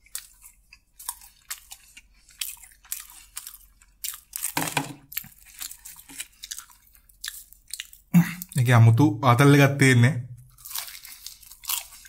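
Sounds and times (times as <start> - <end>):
crunching crispy food: 0.0 - 8.6, 10.5 - 12.0.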